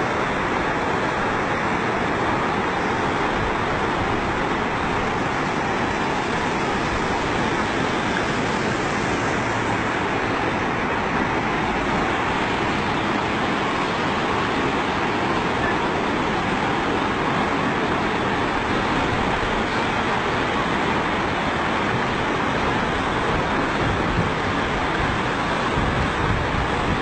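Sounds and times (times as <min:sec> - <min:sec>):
floodwater rushing in a torrent: 0:00.0 - 0:27.0.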